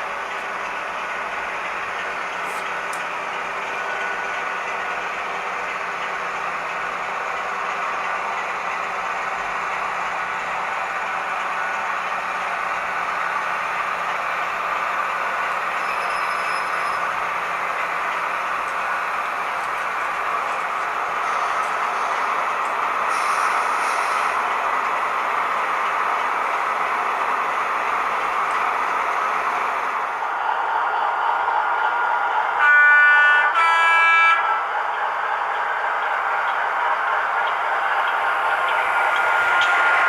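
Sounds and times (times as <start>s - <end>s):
wheels on track: 0.0s - 32.6s, 34.3s - 40.0s
model train running sound: 0.0s - 40.0s.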